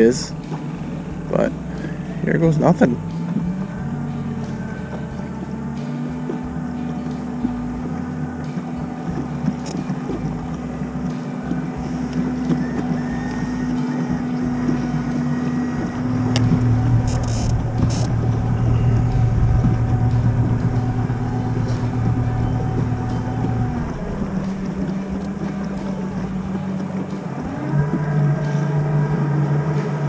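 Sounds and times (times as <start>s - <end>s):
outboard motor running: 0.0s - 30.0s
wind on microphone: 0.0s - 30.0s.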